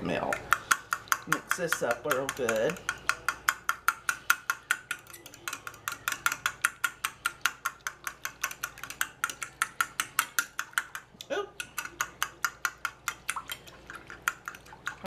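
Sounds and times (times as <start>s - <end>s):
fork beating eggs in glass bowl: 0.0s - 15.0s.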